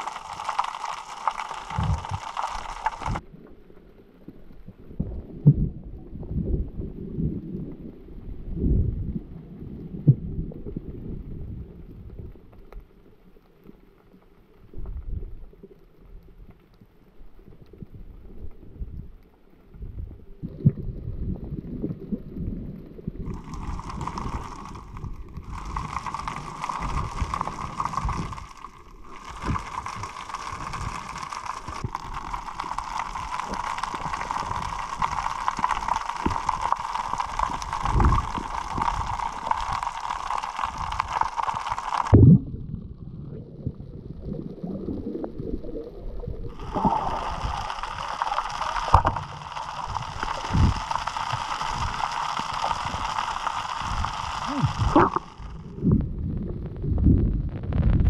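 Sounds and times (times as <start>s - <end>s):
underwater water rumbling: 0.0s - 58.0s.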